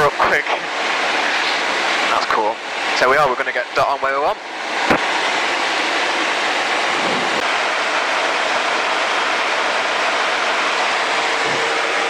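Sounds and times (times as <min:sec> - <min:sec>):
light aircraft cabin drone: 0:00.0 - 0:12.0.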